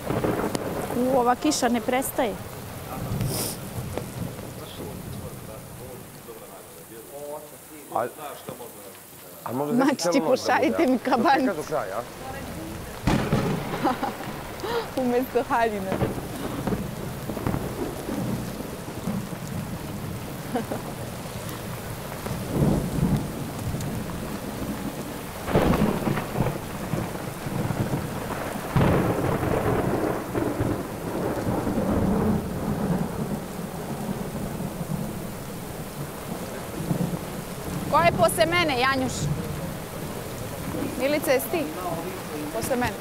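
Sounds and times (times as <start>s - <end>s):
rain on wet pavement: 0.0s - 43.0s.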